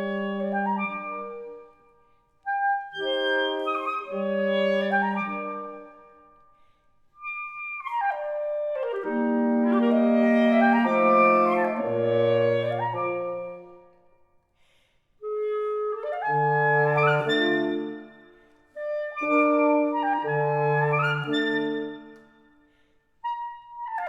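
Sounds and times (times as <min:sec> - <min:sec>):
woodwind quintet playing: 0:00.0 - 0:01.9, 0:02.5 - 0:06.3, 0:07.2 - 0:14.0, 0:15.2 - 0:22.3.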